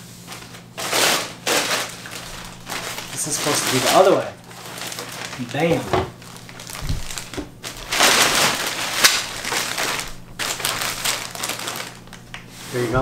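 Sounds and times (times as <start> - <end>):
packaging wrap crinkling: 0.3 - 13.0.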